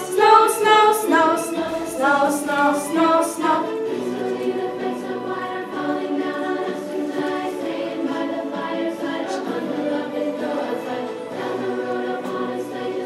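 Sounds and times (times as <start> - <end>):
group singing long held notes: 0.0 - 13.0.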